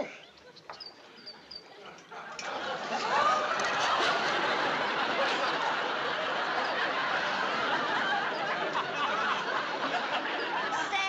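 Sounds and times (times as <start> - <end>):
audience laughing: 1.7 - 11.0.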